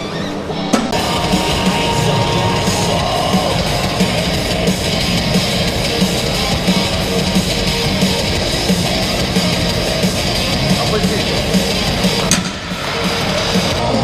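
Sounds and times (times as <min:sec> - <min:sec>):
heavy metal music: 0:00.0 - 0:14.0.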